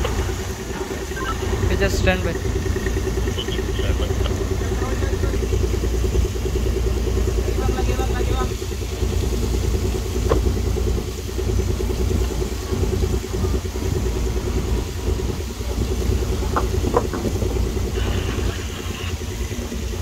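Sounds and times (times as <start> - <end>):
crane engine humming under load: 0.0 - 20.0.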